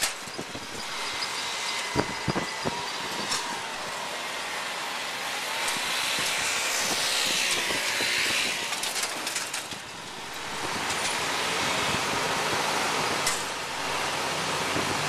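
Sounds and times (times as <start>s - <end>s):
traffic and road noise: 0.0s - 15.0s.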